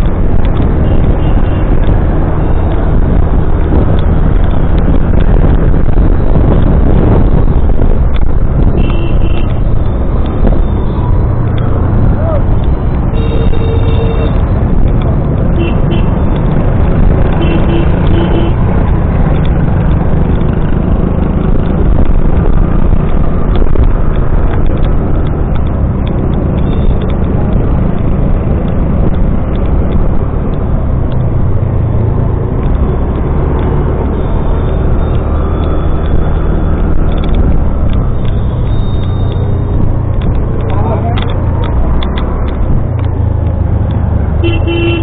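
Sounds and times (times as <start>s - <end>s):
wind rumble: 0.0s - 45.0s.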